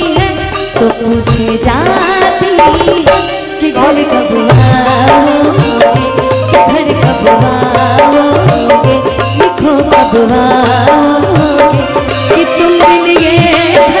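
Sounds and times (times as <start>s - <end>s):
hand drum rhythm: 0.0s - 3.5s, 4.5s - 14.0s
sliding melodic lead line: 0.0s - 14.0s.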